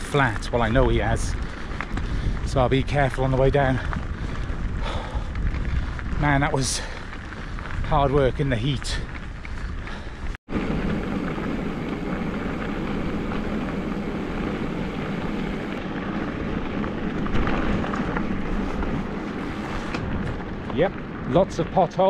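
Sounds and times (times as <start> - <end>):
bike tyres rolling on gravel: 0.0 - 22.0
wind on microphone: 0.0 - 22.0.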